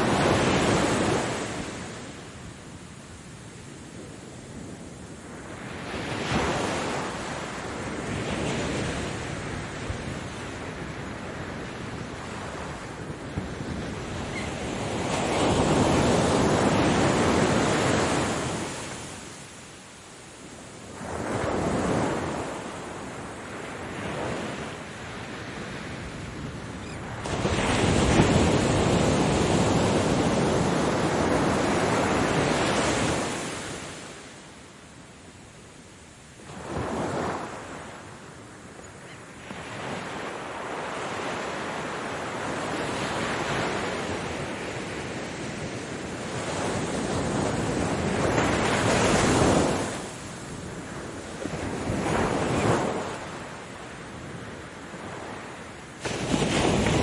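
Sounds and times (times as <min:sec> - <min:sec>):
ocean waves washing in: 0:00.0 - 0:34.9, 0:36.3 - 0:57.0.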